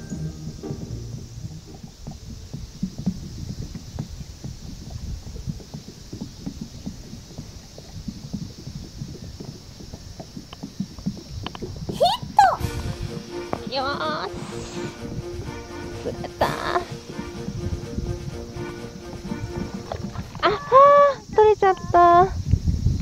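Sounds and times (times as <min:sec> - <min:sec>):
waves lapping against boat: 0:00.0 - 0:22.2
faint steady hiss: 0:00.0 - 0:23.0.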